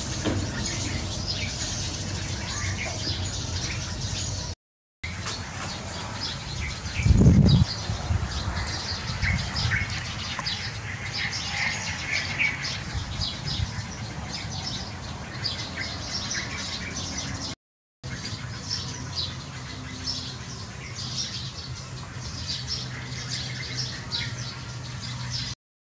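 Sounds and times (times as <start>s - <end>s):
sparrows chirping: 0.0s - 25.6s.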